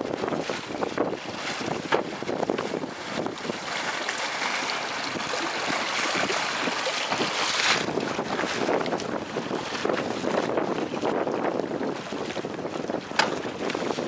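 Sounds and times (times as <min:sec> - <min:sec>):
seawater splashing around a boat: 0:00.0 - 0:14.0.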